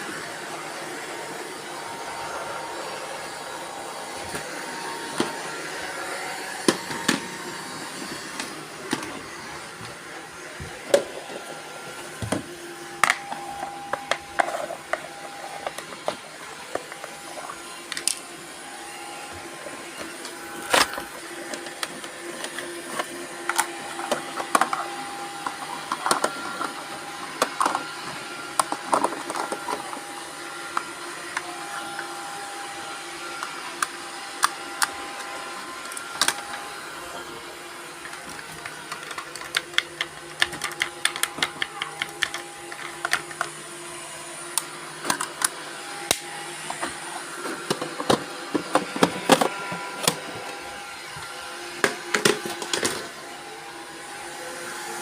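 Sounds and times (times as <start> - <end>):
robot vacuum motor hum: 0.0 - 55.0.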